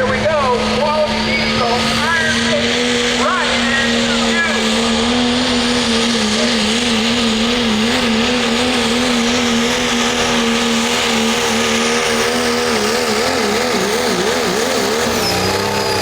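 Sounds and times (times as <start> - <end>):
engine running at high revs: 0.0 - 16.0.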